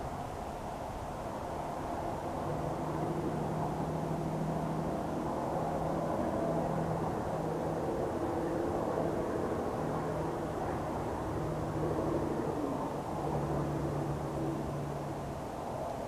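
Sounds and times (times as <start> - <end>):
breezy outdoor noise: 0.0 - 16.0
distant engine drone: 0.0 - 16.0.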